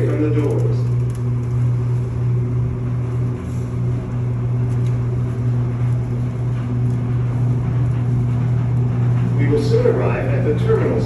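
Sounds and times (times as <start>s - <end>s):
train low hum: 0.0s - 11.0s
train rumble: 0.0s - 11.0s.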